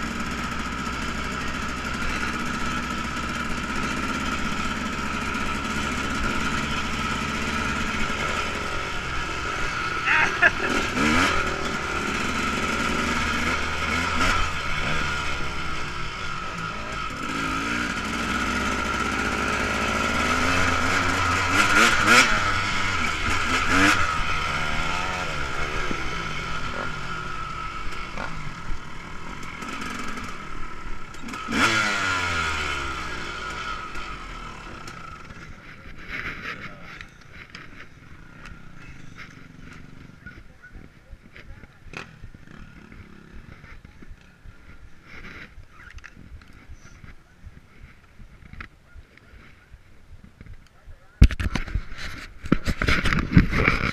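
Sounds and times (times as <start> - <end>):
dirt bike engine revving: 0.0 - 48.7, 51.6 - 53.9.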